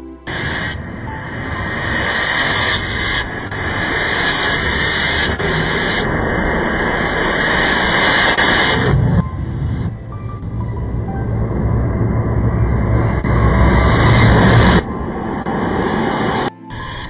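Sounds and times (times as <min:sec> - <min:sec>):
harsh static noise: 0:00.0 - 0:17.0.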